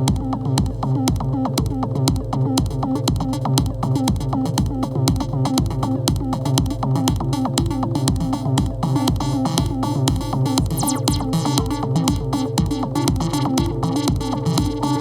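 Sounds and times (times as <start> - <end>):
fast hi-hats: 0.0 - 15.0
kick drum: 0.0 - 15.0
synth bass line: 0.0 - 15.0
techno music: 0.0 - 15.0.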